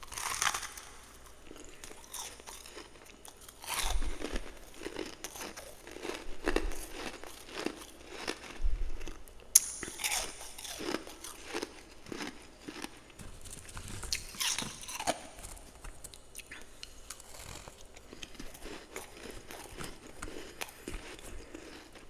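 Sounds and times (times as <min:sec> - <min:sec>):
person chewing crunchy frost: 0:00.0 - 0:22.0.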